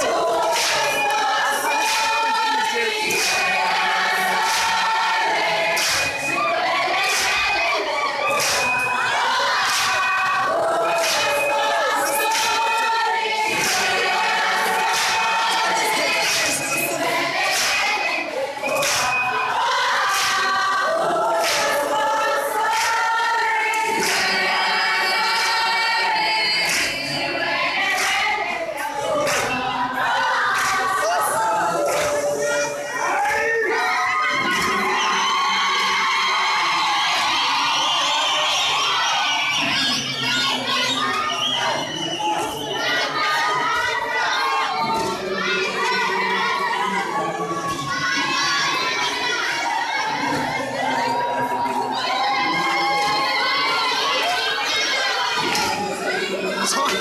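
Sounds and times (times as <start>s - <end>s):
large crowd singing in chorus: 0.0s - 57.0s.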